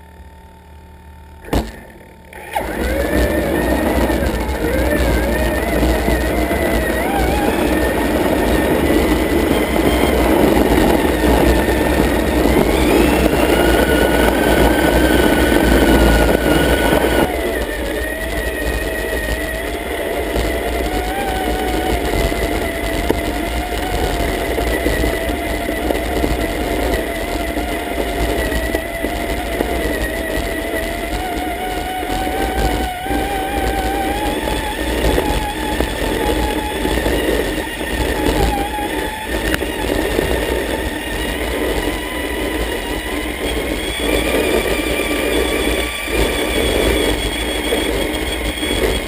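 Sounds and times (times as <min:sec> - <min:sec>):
electric motor whining: 0:00.0 - 0:49.0
rough loud noise: 0:01.4 - 0:49.0.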